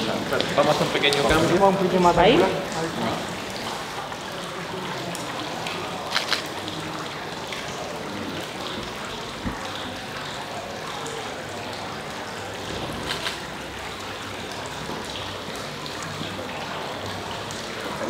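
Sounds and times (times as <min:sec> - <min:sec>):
fountain water trickling: 0:00.0 - 0:18.0.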